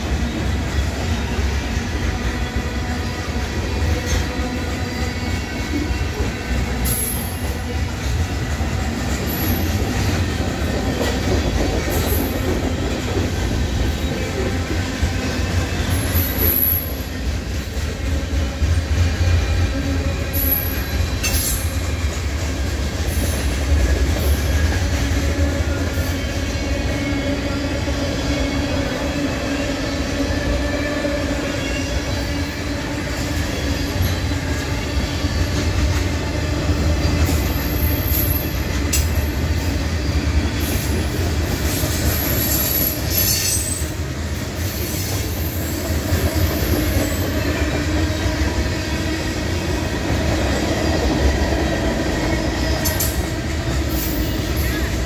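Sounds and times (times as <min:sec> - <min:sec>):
freight train rumbling past: 0:00.0 - 0:55.0
wheel squeal on rail: 0:00.2 - 0:36.4, 0:37.0 - 0:49.3, 0:52.2 - 0:55.0.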